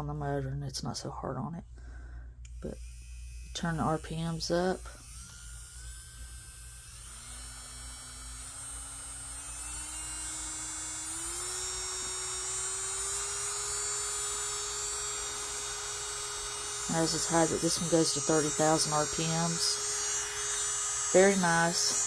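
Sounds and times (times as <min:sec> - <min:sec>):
electric nail drill whining: 0:01.8 - 0:22.0.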